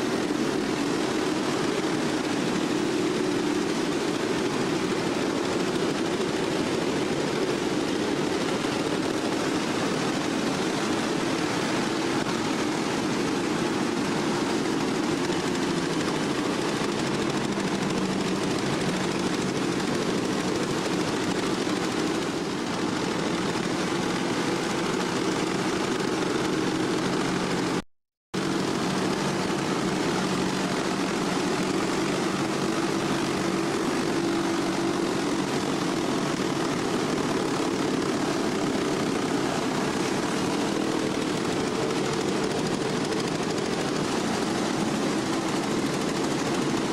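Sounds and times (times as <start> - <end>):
rushing water: 0.0 - 27.8, 28.4 - 46.9
wooden waterwheel droning: 0.0 - 27.8, 28.4 - 46.9.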